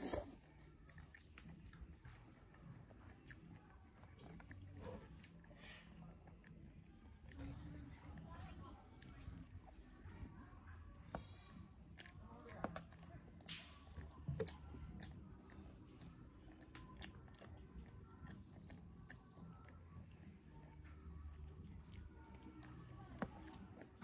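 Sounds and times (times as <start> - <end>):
faint chewing of soft food: 0.0 - 24.0.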